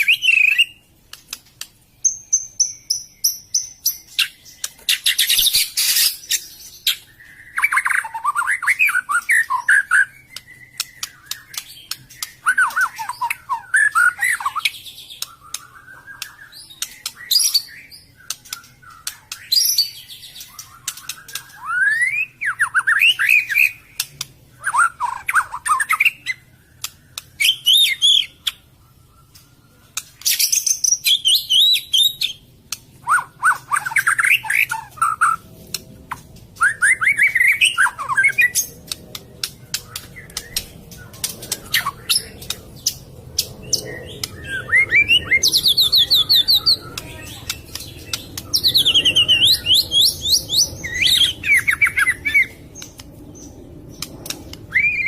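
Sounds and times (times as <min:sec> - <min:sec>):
songbird whistles and trills: 0:00.0 - 0:01.4, 0:02.0 - 0:55.0.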